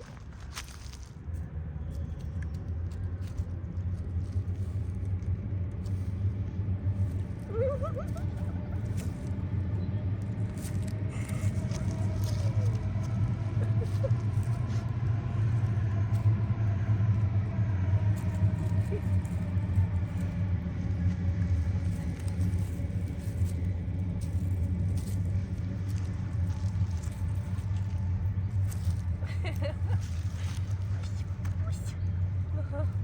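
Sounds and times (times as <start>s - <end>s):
loud low rumble: 0.0s - 33.0s.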